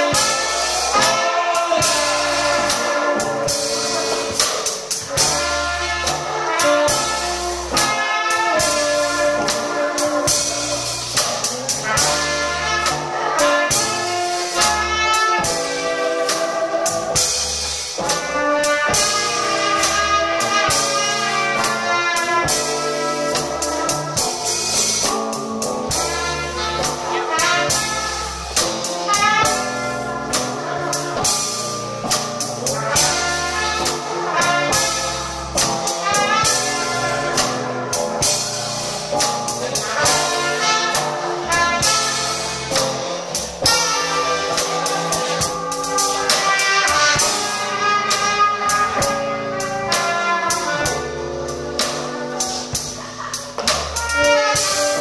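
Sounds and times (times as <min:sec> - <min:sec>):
drum kit beat: 0:00.0 - 0:55.0
trombone: 0:00.0 - 0:55.0
trumpet: 0:00.0 - 0:55.0.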